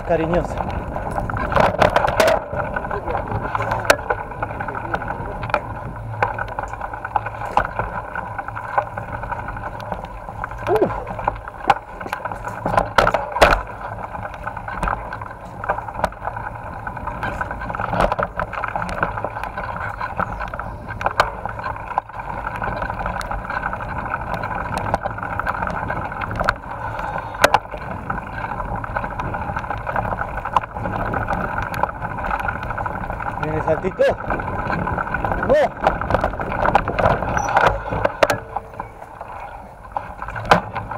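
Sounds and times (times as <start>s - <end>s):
bike rattling over bumps: 0.0s - 40.9s
wind and tyre noise: 0.0s - 40.9s.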